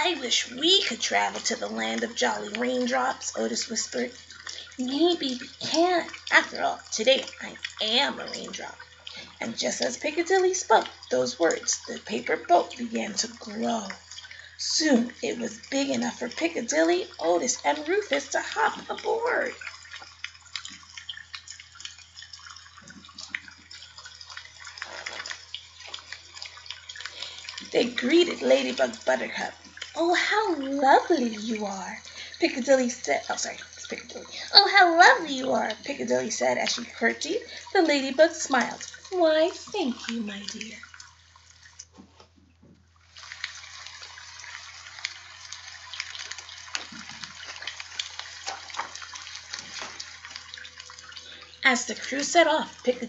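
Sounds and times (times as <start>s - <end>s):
water running: 0.0s - 53.0s.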